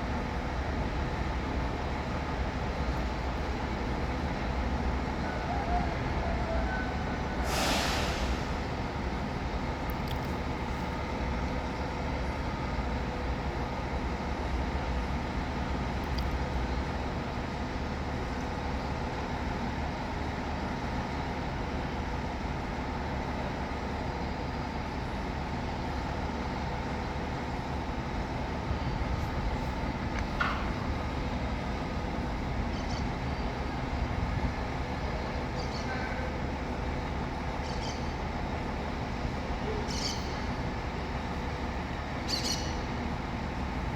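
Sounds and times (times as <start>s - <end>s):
diesel engine running: 0.0s - 35.6s.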